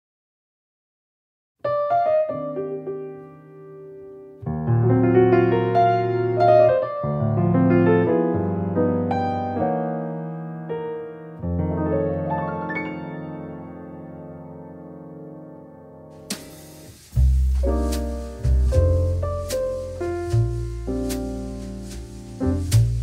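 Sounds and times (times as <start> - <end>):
piano music: 1.6 - 23.0.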